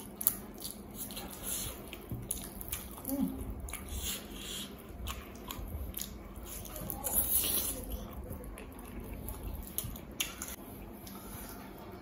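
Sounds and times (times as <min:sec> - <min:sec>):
wet chewing and lip smacks: 0:00.0 - 0:11.6.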